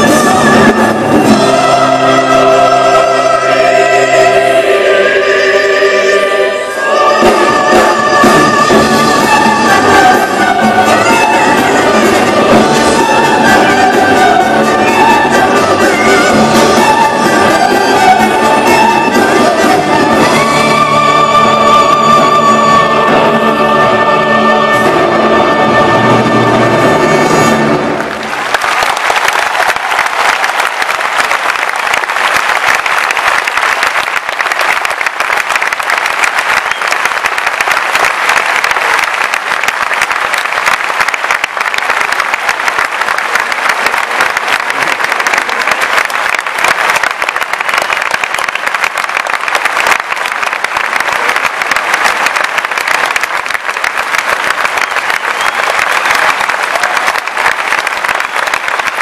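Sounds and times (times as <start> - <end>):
audience applauding: 6.8 - 23.2, 26.4 - 59.0.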